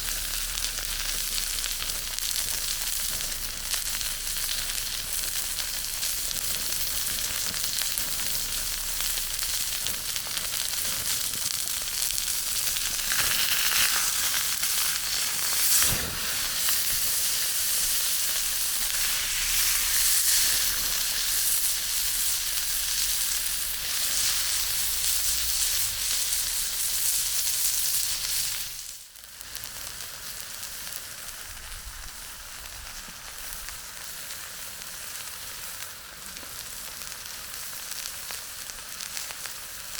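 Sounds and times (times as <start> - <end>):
chicken sizzling in a pan: 0.0 - 39.9.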